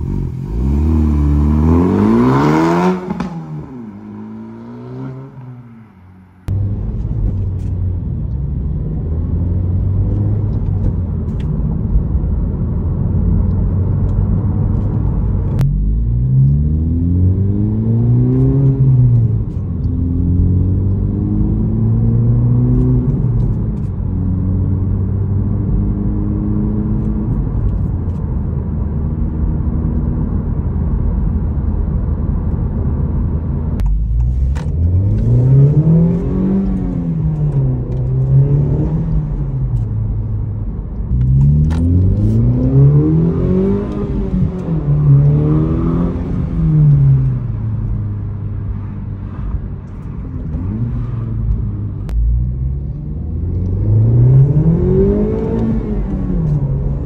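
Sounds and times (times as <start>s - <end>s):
car engine and exhaust from inside: 0.0s - 57.0s.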